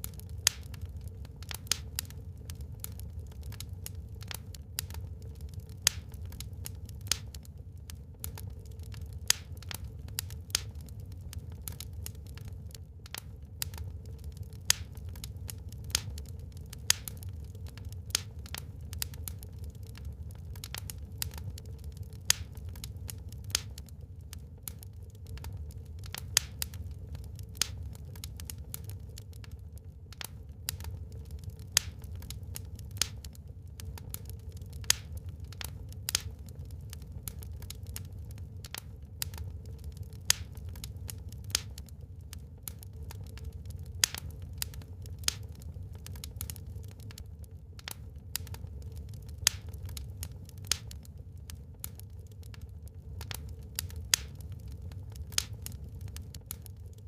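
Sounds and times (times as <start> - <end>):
low fire rumble: 0.0 - 57.0
wood fire crackling: 0.0 - 57.0.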